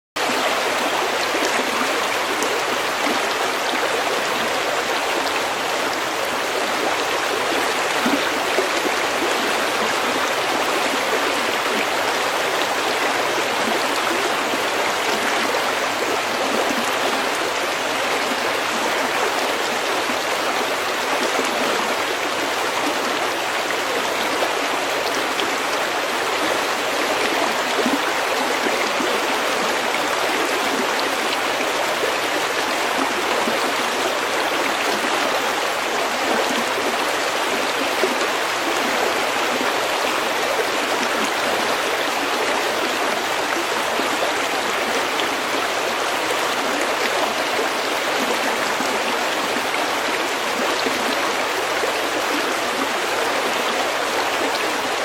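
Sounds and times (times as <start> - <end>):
brook flowing over pebbles: 0.2 - 55.0.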